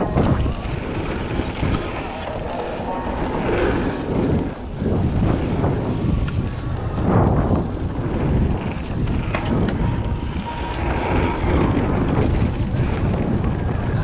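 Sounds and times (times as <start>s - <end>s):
bike tyres on gravel: 0.0s - 14.0s
wind buffeting microphone: 0.0s - 14.0s.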